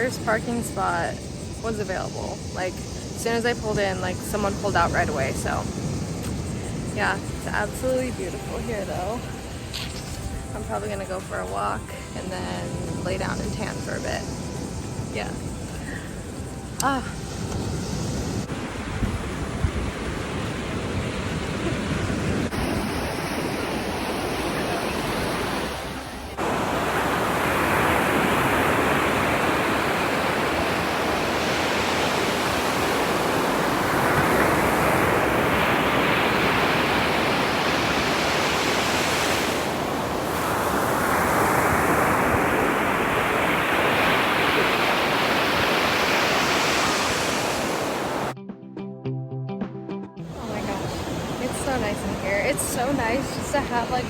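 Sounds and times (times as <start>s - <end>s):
ocean surf breaking: 0.0s - 15.4s, 17.1s - 48.4s, 50.3s - 54.0s
wind on microphone: 0.0s - 48.4s, 50.2s - 54.0s.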